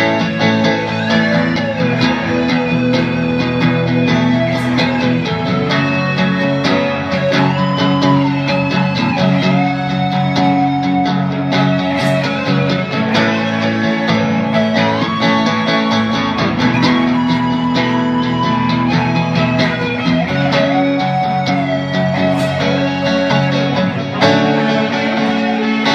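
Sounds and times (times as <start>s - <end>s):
lead guitar bending notes: 0.0s - 25.9s
rhythm guitar chords: 0.0s - 25.9s.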